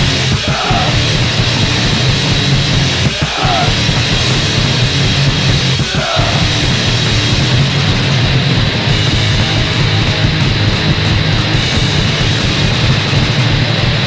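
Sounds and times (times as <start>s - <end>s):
punk rock band playing: 0.0s - 14.0s.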